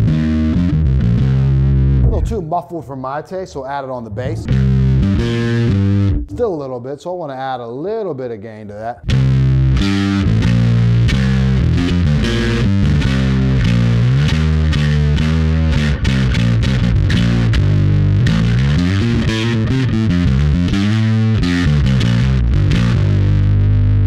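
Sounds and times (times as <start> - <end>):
distorted electric bass notes: 0.0 - 6.8, 9.0 - 24.0.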